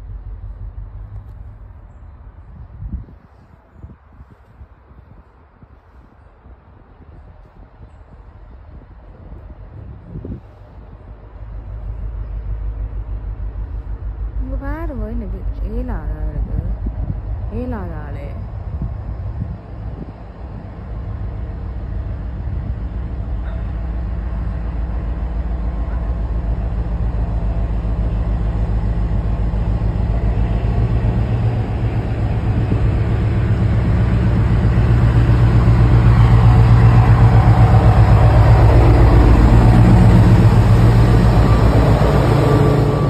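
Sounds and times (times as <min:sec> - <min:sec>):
diesel locomotive engine drone: 0:00.0 - 0:43.0
wheel and rail noise: 0:00.0 - 0:43.0.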